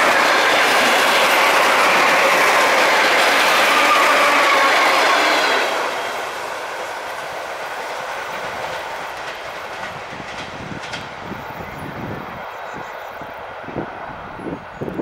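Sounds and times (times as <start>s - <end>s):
train wheel and running noise: 0.0s - 15.0s.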